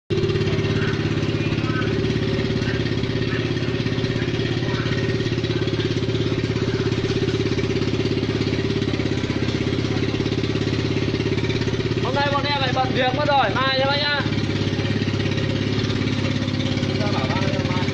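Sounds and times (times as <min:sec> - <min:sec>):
atv engine idling: 0:00.1 - 0:17.9.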